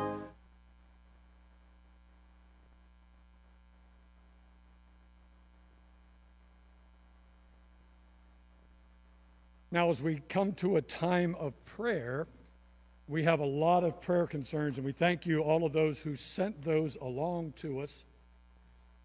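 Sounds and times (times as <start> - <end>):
faint low electrical hum: 0.0 - 19.0.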